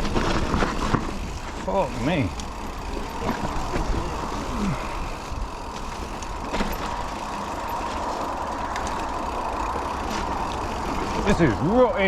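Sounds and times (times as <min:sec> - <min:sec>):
mountain bike rattling over dirt: 0:00.0 - 0:12.0.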